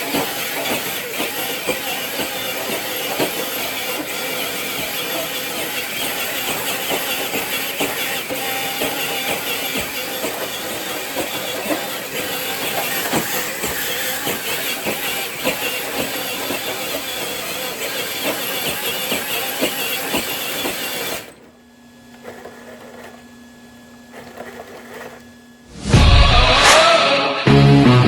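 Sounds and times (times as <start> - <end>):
rc truck running over rough ground: 0.0 - 23.4, 24.0 - 25.4.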